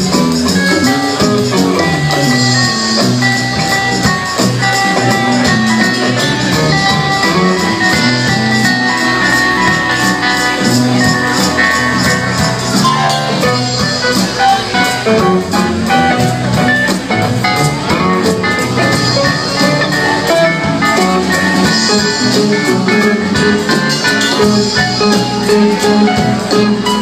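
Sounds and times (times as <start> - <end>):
electric guitar: 0.0 - 27.0
steady drum beat: 0.0 - 27.0.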